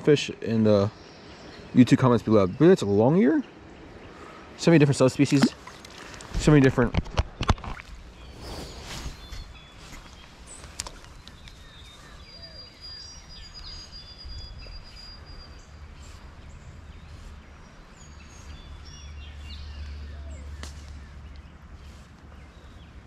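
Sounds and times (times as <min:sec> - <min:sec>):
birds whistling and chirping: 0:00.2 - 0:06.1, 0:08.1 - 0:23.0
steady low rumble: 0:03.5 - 0:23.0.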